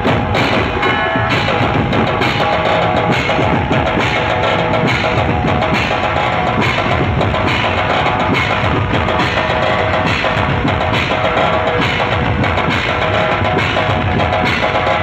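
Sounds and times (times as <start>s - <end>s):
fast dense drum beats: 0.0s - 15.0s.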